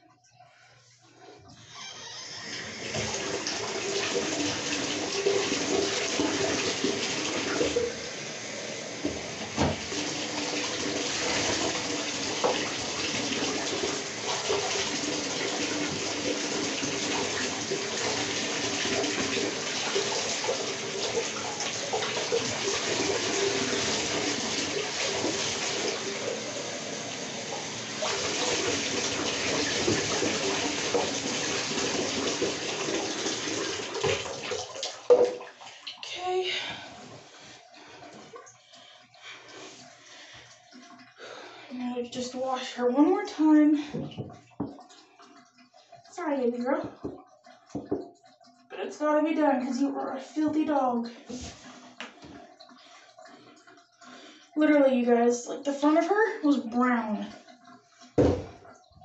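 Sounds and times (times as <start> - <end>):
tap running into bathtub: 1.6 - 36.1, 42.0 - 48.7, 49.3 - 55.0, 55.7 - 59.0.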